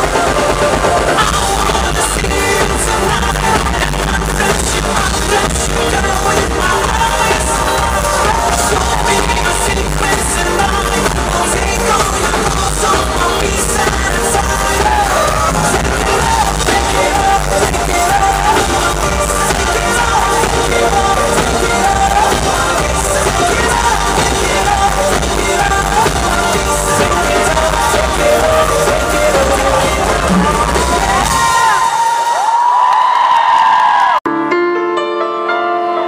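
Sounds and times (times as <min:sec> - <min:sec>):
live band with drums: 0:00.0 - 0:32.7
man singing lead vocal: 0:00.0 - 0:32.7.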